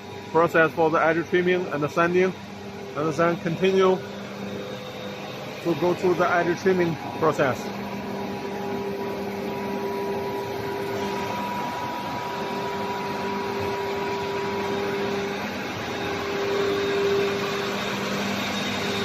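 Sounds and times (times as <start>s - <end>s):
factory machinery whirring: 0.0s - 19.0s.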